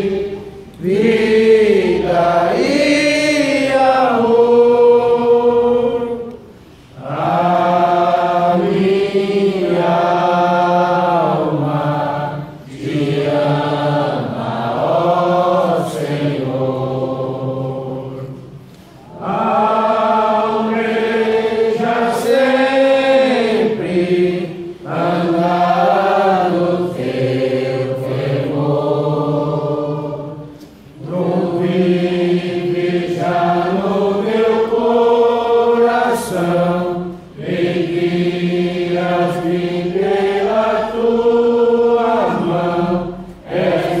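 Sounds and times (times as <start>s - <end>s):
slow hymn singing: 0.0s - 44.0s.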